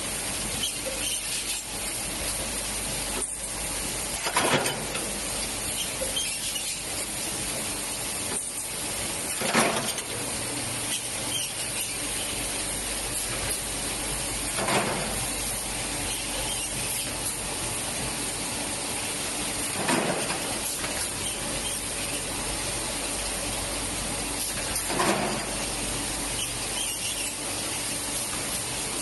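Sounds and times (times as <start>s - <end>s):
production line machinery running: 0.0s - 29.0s.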